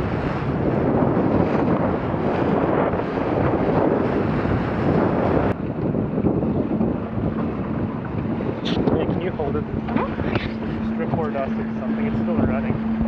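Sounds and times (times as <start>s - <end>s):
water rushing past hull: 0.0s - 13.0s
wind buffeting microphone: 0.0s - 13.0s.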